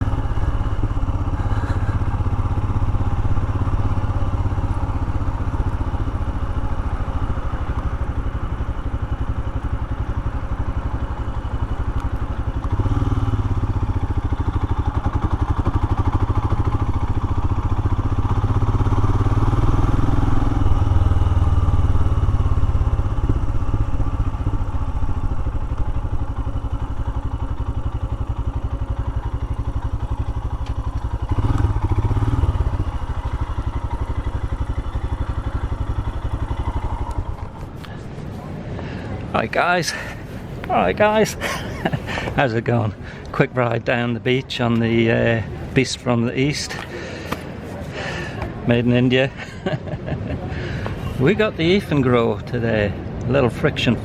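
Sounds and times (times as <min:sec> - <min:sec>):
motorcycle engine running: 0:00.0 - 0:43.8.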